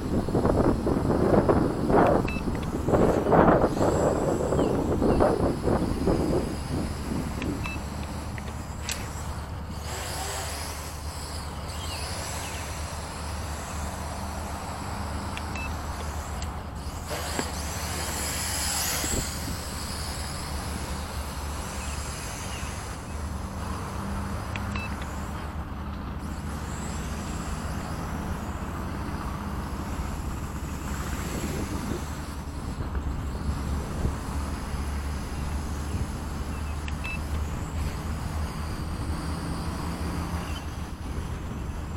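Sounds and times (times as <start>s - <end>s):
wind buffeting microphone: 0.0s - 11.4s, 12.1s - 22.0s, 27.9s - 41.9s.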